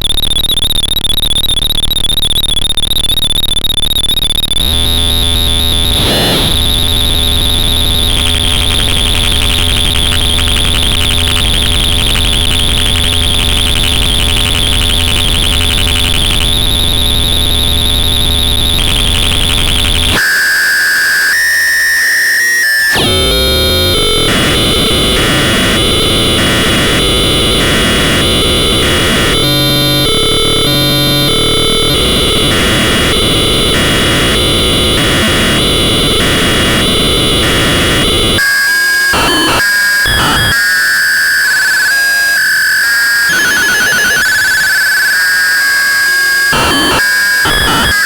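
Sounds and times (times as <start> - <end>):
harsh synthesizer drone: 4.6 - 48.0.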